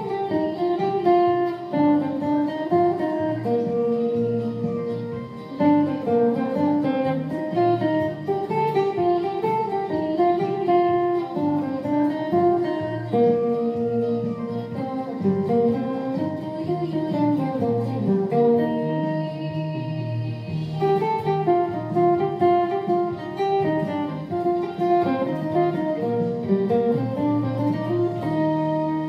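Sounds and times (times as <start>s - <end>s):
fingerpicked acoustic guitar: 0.0s - 29.0s.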